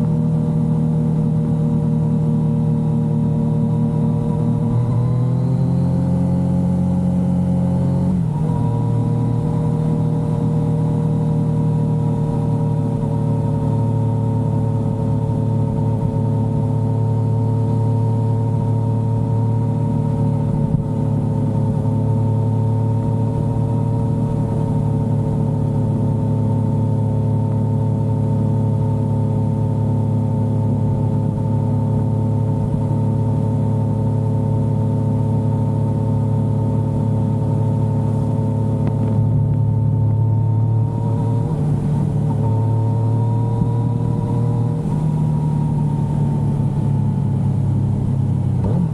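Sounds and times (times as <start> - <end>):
motorcycle engine on the road: 0.0 - 48.9.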